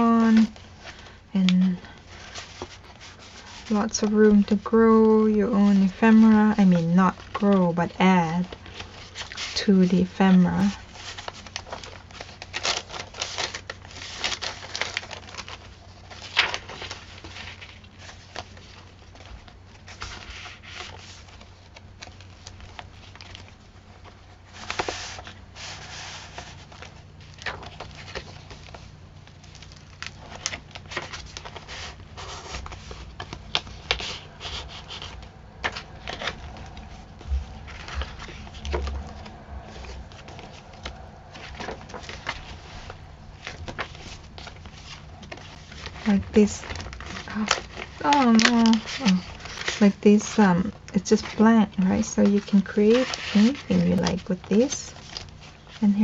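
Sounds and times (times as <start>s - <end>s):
faint low hum: 0.0s - 56.0s
paper pages rustling and flapping: 0.0s - 56.0s.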